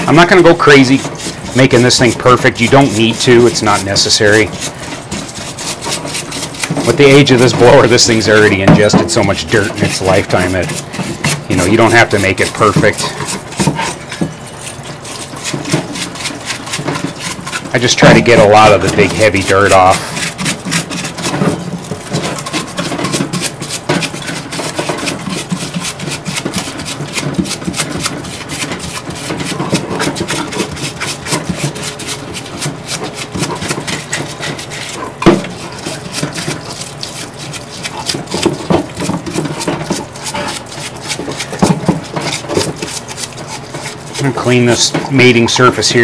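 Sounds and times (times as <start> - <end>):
bristle brush scrubbing metal: 0.0 - 46.0.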